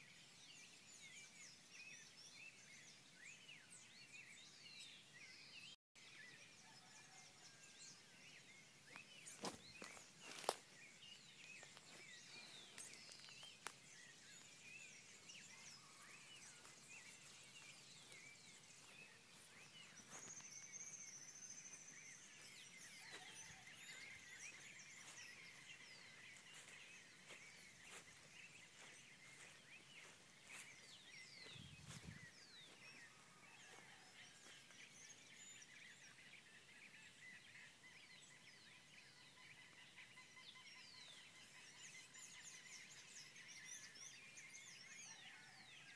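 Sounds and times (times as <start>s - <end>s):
dawn chorus of birds: 0.0s - 45.9s.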